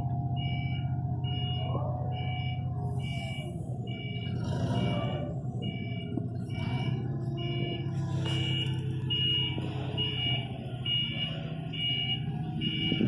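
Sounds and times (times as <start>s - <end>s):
forklift engine running: 0.0s - 13.0s
two-tone back-up alarm beeps: 0.2s - 13.0s.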